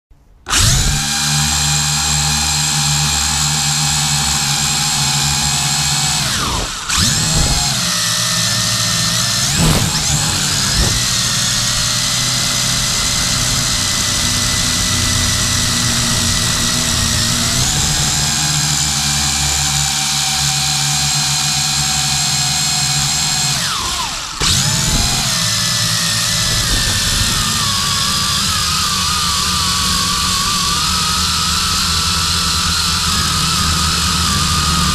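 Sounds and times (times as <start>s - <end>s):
drone motors and propellers whining: 0.5s - 34.9s.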